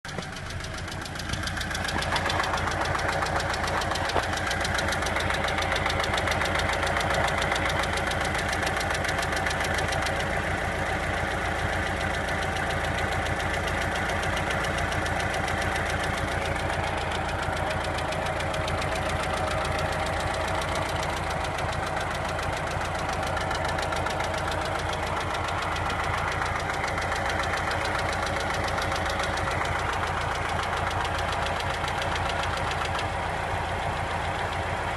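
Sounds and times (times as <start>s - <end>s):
car engine running: 0.0s - 34.9s
rapid engine knocking: 0.0s - 34.9s.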